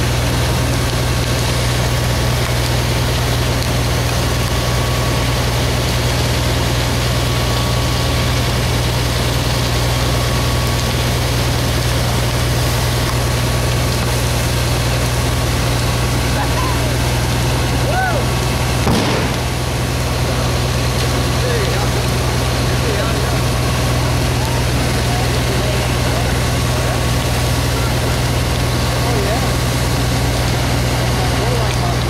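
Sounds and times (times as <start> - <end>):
fire engine motor droning: 0.0 - 32.0.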